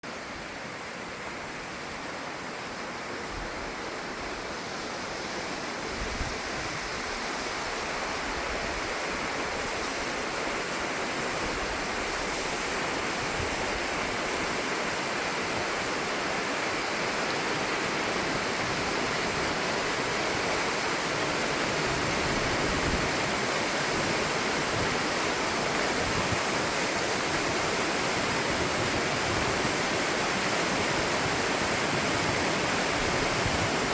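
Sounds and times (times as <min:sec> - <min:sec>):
river rapids rushing over boulders: 0:00.0 - 0:33.9.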